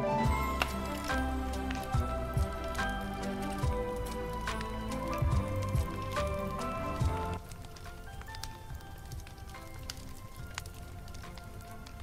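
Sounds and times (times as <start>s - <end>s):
music of sustained notes: 0.0s - 12.0s.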